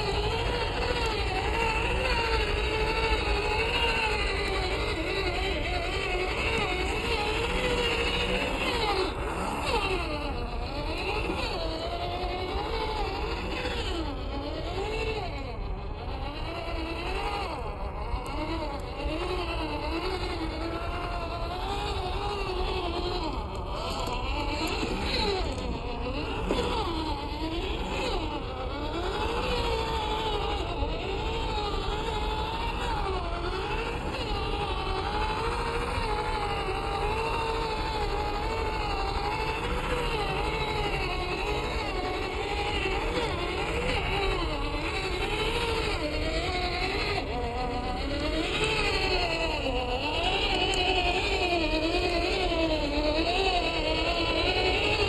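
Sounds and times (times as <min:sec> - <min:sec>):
rc car motor whine: 0:00.0 - 0:55.0.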